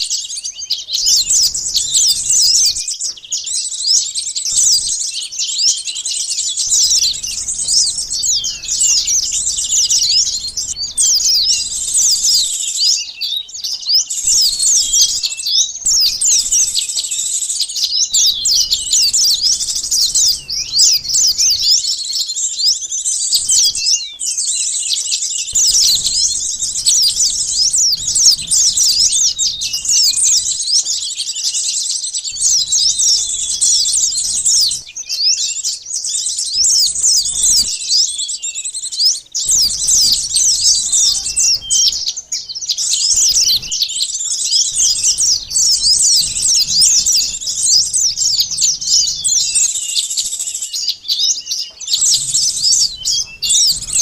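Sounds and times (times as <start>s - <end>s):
sunbirds chirping: 0.0s - 54.0s.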